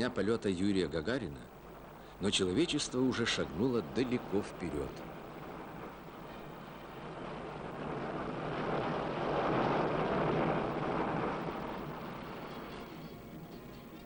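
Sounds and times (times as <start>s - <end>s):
rocket engines rushing: 0.0s - 14.0s.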